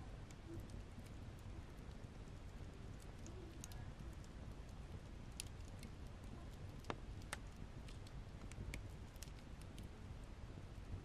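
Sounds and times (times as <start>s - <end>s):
low rumble of burning logs: 0.0s - 11.0s
wood fire crackling: 0.0s - 11.0s
sharp pops and snaps: 0.2s - 9.9s.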